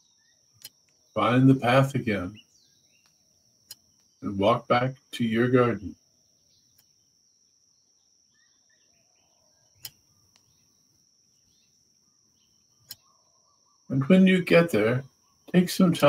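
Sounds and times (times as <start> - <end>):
faint chirps: 0.0 - 16.0
faint high-pitched whine: 0.0 - 16.0.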